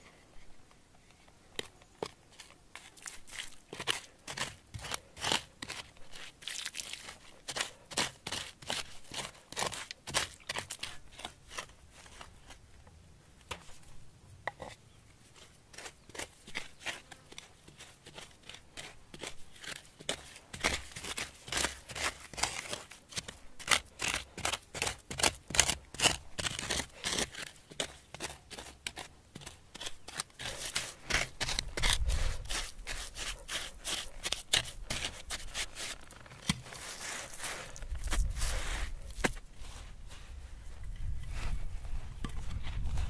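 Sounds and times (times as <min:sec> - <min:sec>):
hands scooping dirt: 0:00.0 - 0:12.8, 0:14.5 - 0:43.0
stick scraping into gravelly soil: 0:02.3 - 0:12.6, 0:15.4 - 0:43.0.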